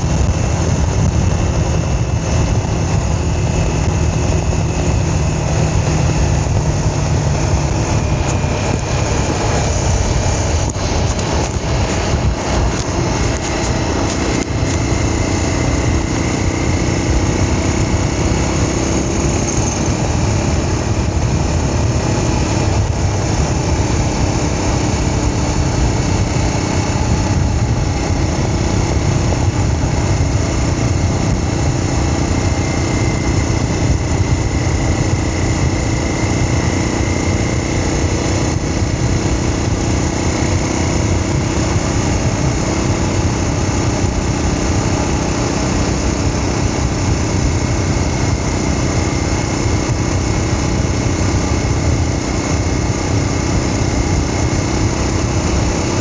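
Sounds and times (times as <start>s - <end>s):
small vehicle engine running: 0.0s - 56.0s.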